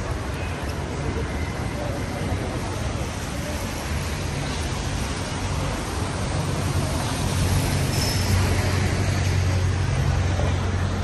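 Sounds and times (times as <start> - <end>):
tyres hissing on wet road: 0.0 - 11.0.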